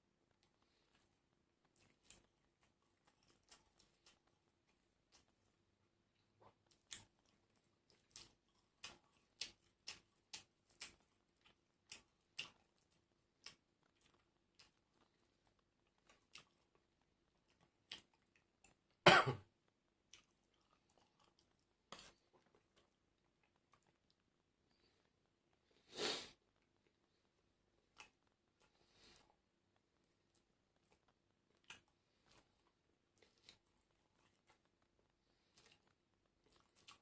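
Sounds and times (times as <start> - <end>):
chewing crunchy food: 0.3 - 37.0.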